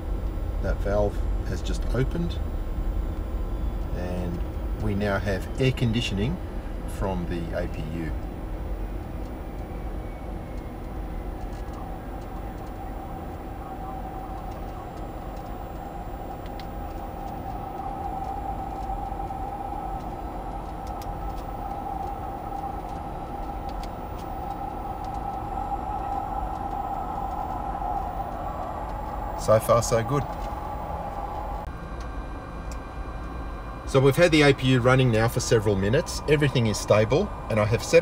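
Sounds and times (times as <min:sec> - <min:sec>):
air conditioning rushing: 0:00.0 - 0:38.0
aircraft power unit humming: 0:00.0 - 0:38.0.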